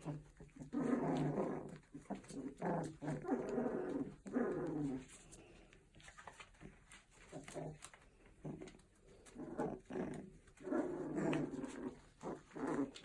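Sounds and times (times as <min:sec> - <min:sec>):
puppy whining: 0:00.0 - 0:13.0.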